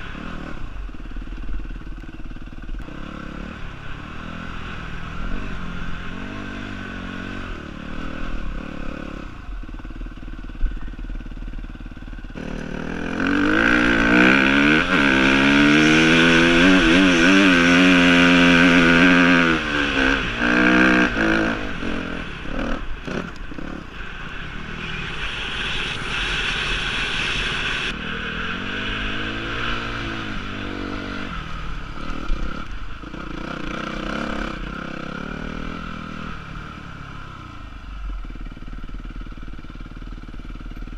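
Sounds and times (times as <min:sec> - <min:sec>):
dirt bike engine revving: 0:00.0 - 0:09.5, 0:11.2 - 0:37.0.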